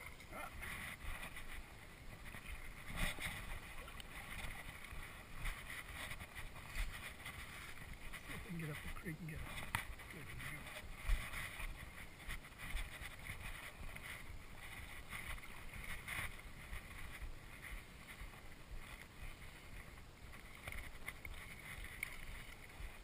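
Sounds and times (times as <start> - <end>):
faint clicks and knocks: 0.0 - 23.0
water noise: 0.0 - 23.0
wind: 0.0 - 23.0.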